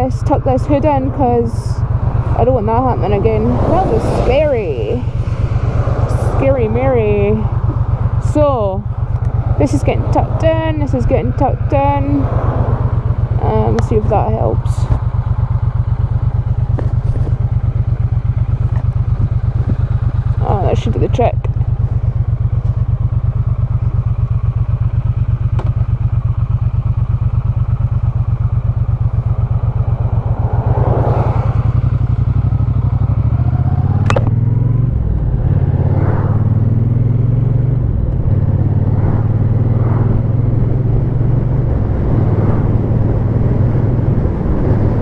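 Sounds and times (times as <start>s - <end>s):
motorcycle engine idling and accelerating: 0.0s - 45.0s.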